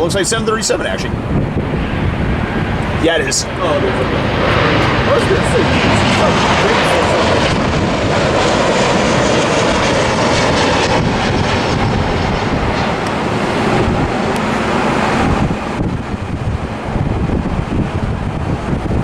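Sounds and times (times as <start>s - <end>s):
jet airliner roar overhead: 0.0s - 19.0s.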